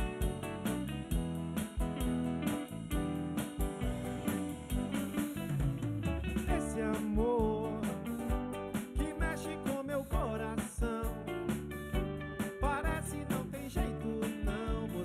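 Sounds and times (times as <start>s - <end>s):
drum kit beat: 0.0s - 15.0s
electric bass: 0.0s - 15.0s
electric guitars: 0.0s - 15.0s.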